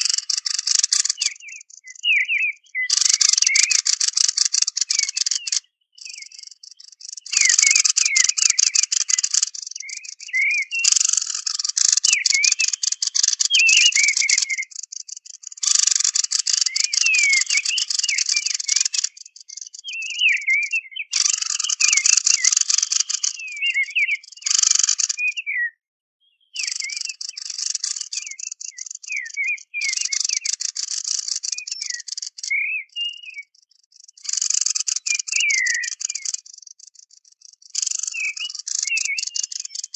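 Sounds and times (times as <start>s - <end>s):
harsh rapid rattling bird chatter: 0.0s - 25.4s, 26.6s - 39.9s
bird chirps and whistles: 0.0s - 39.9s.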